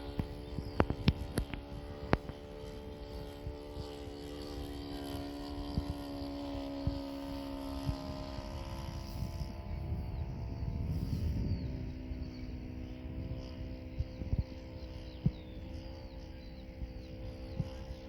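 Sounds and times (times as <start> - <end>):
model airplane motor humming: 0.0 - 18.0
wind rumble on microphone: 0.0 - 18.0.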